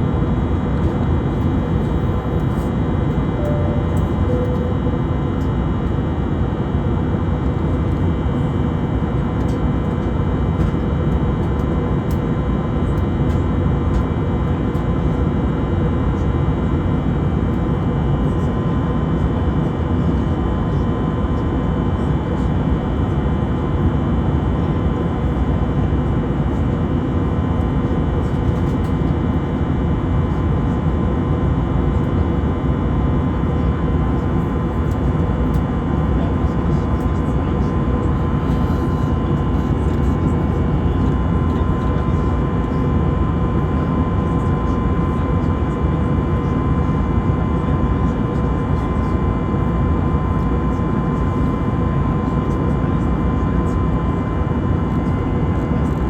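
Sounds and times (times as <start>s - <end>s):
jet engines in cabin: 0.0s - 56.0s.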